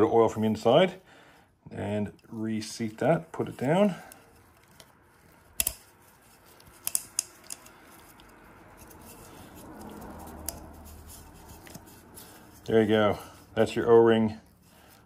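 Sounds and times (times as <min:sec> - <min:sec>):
rubber rubbing and handling: 0:00.0 - 0:15.0.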